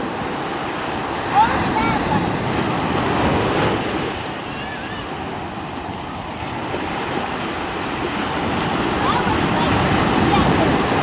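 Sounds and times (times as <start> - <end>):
ocean surf washing onto beach: 0.0 - 11.0
wind on microphone: 0.0 - 11.0.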